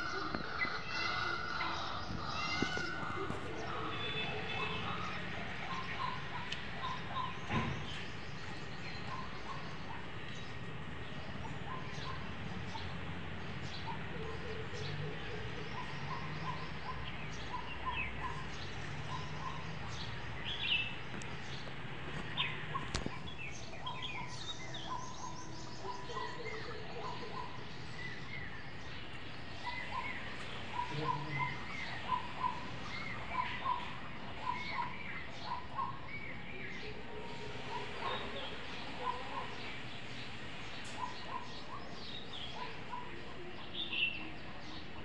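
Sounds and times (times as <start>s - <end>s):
birds chirping: 0.0s - 45.0s
outdoor background noise: 0.0s - 45.0s.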